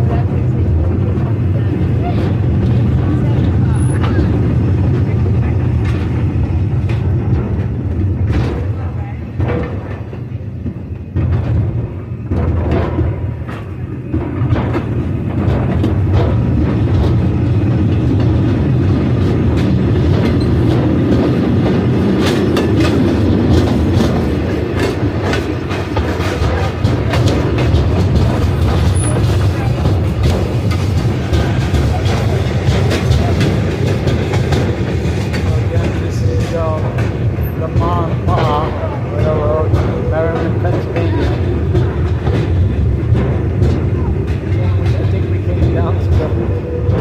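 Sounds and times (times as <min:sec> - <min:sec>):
clanks and rail clicks: 0:00.0 - 0:47.0
train rumbling along track: 0:00.0 - 0:47.0.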